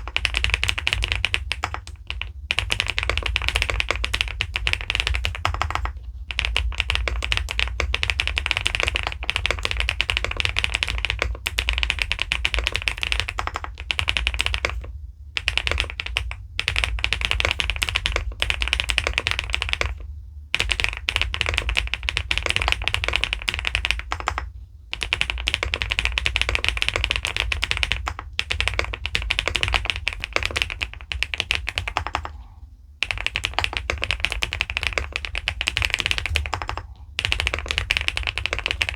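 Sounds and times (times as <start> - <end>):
mechanical keyboard typing: 0.0 - 32.4, 33.0 - 38.9.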